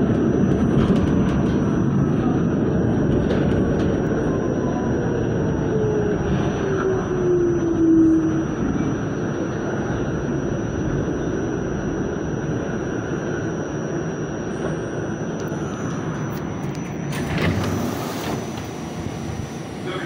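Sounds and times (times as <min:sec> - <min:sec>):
wheels rumbling on rails: 0:00.0 - 0:13.2, 0:14.0 - 0:20.0
train motors whining: 0:00.1 - 0:20.0.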